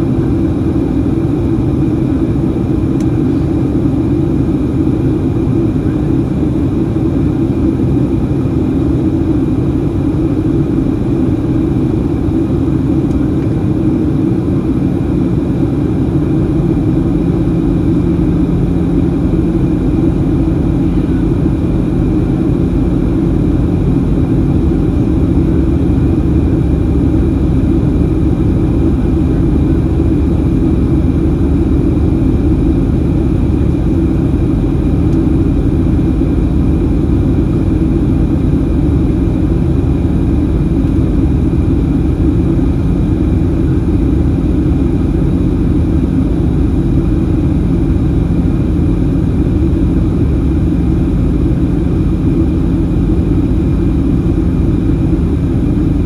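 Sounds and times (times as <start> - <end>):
aircraft cabin engine drone: 0.0 - 56.0
low steady hum: 0.0 - 56.0.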